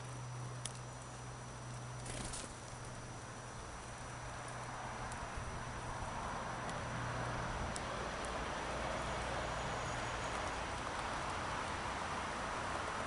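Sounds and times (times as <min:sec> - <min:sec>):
birds pecking light ticks: 0:00.0 - 0:09.2, 0:10.2 - 0:11.8
outdoor background noise: 0:00.0 - 0:13.0.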